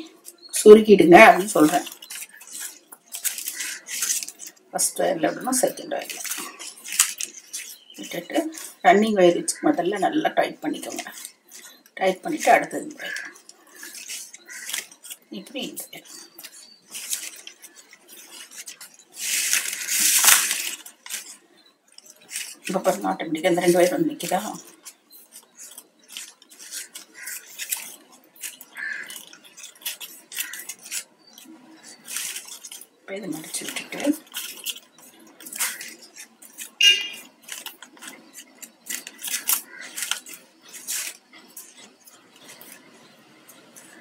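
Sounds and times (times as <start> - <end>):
plastic wire rustling and clicking: 0.0 - 4.8, 5.4 - 8.9, 10.7 - 44.0.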